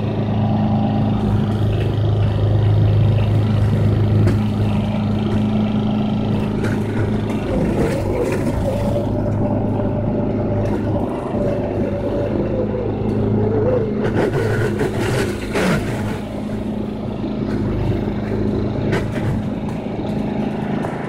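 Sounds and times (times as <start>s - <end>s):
lawn mower engine running: 0.0s - 21.0s
wavering whine: 0.0s - 21.0s.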